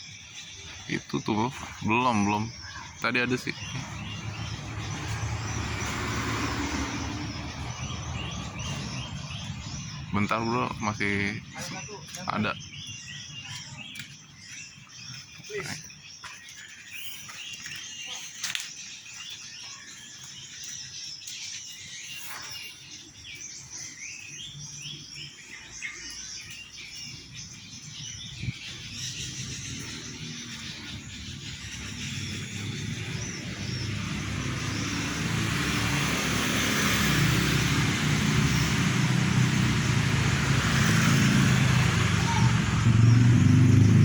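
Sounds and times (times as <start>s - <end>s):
small birds chirping: 0.0s - 44.0s
motor vehicle approaching: 0.8s - 18.0s, 23.2s - 44.0s.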